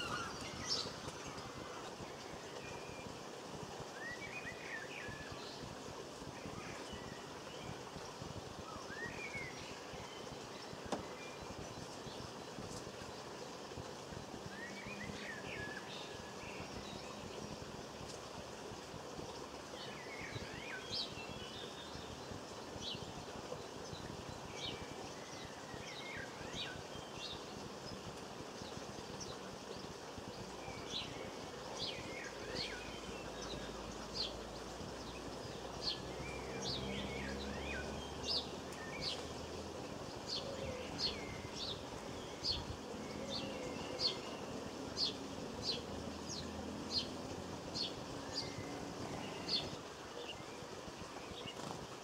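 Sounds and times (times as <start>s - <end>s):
small birds twittering: 0.0s - 52.0s.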